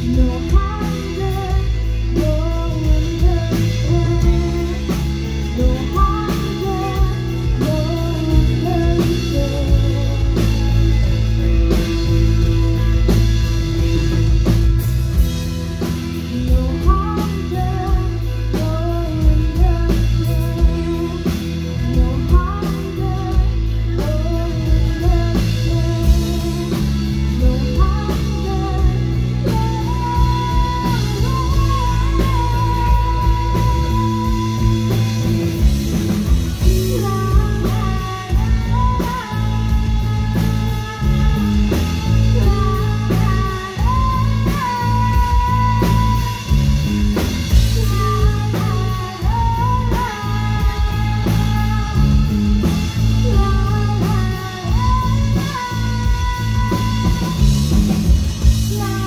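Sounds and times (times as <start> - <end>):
drums striking: 0.0 - 59.0
person singing: 0.0 - 59.0
rock band playing: 0.0 - 59.0.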